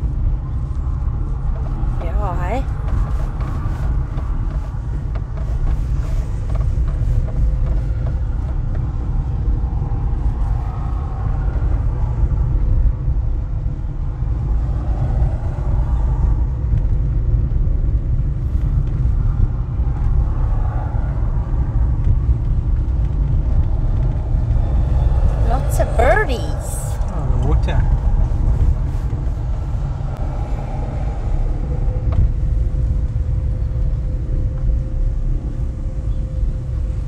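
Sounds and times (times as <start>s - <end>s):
car driving on dirt road: 0.0s - 37.0s
low rumble of tyres and engine: 0.0s - 37.0s.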